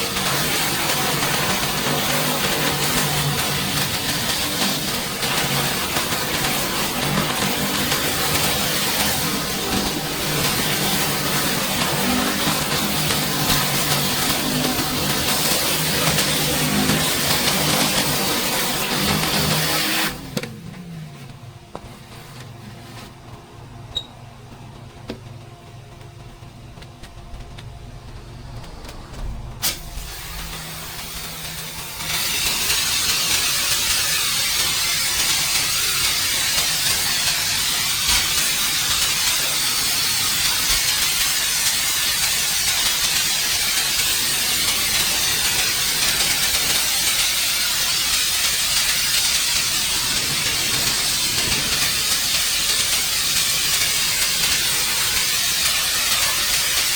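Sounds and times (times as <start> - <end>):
pressure washer spraying: 0.0 - 21.2, 27.1 - 56.9.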